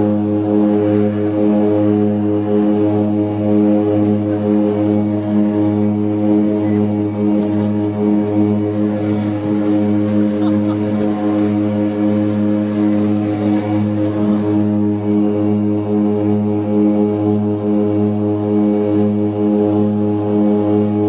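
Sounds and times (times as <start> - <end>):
propeller engine droning: 0.0 - 21.0.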